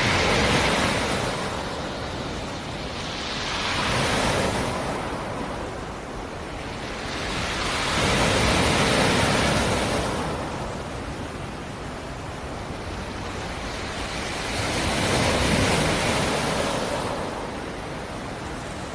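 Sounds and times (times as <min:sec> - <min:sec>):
waves breaking on shore: 0:00.0 - 0:18.9.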